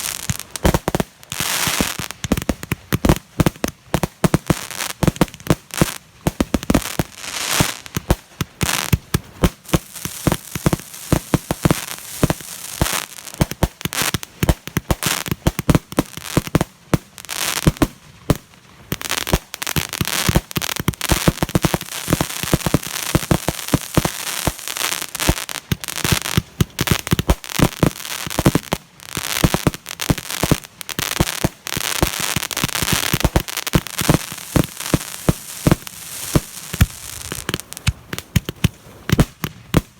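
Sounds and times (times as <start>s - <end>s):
fireworks popping and crackling: 0.0s - 39.9s.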